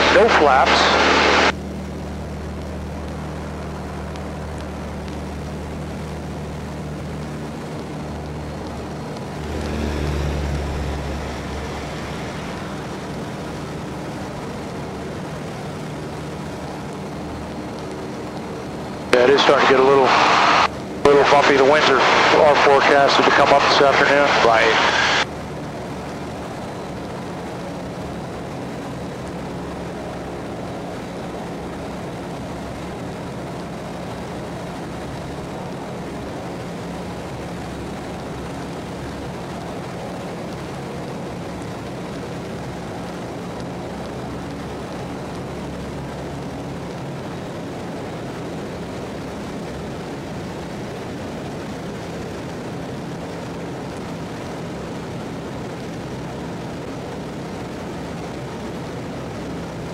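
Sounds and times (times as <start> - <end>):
propeller engine drone: 0.0 - 59.9.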